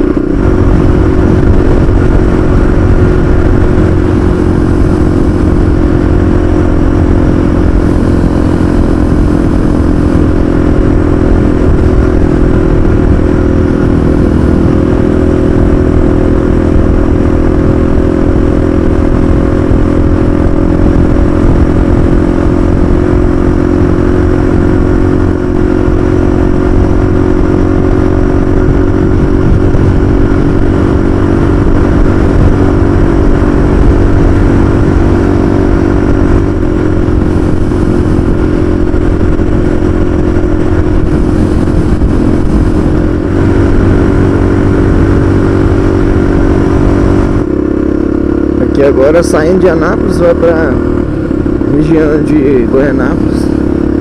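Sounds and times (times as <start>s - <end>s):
motorcycle engine running: 0.0s - 54.0s
road noise rushing: 0.0s - 54.0s.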